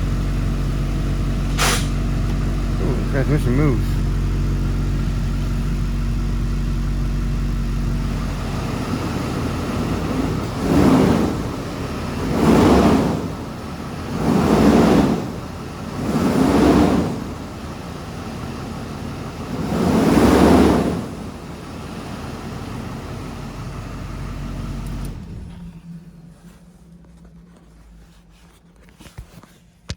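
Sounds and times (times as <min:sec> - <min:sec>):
truck engine idling and revving: 0:00.0 - 0:29.9.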